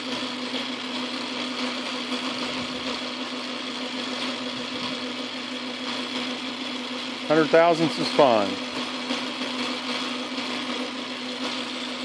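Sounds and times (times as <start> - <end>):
metal lathe humming: 0.0 - 12.0.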